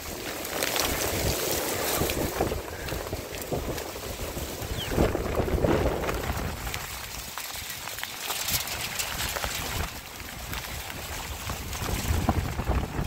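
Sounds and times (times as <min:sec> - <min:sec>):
heavy rain: 0:00.0 - 0:13.0
wind buffeting microphone: 0:00.0 - 0:13.0.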